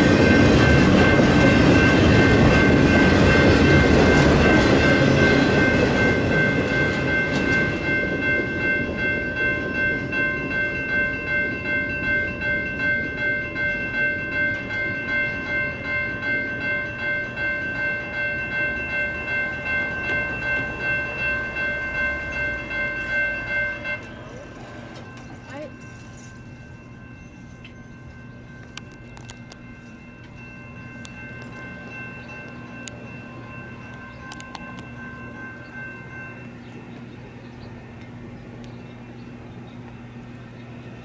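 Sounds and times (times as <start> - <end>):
freight train wheels on rails: 0.0 - 41.0
railroad crossing bells ringing: 0.0 - 41.0.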